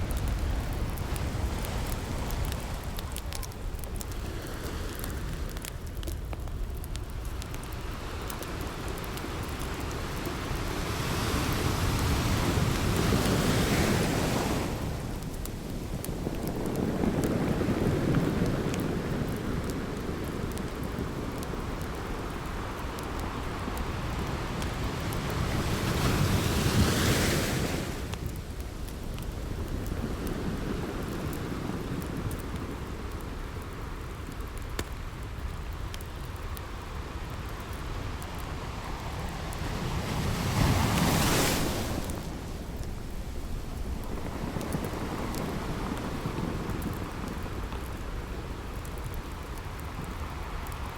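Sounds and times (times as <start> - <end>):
ocean waves breaking on beach: 0.0 - 34.4, 36.3 - 50.9
campfire crackling: 0.0 - 50.9.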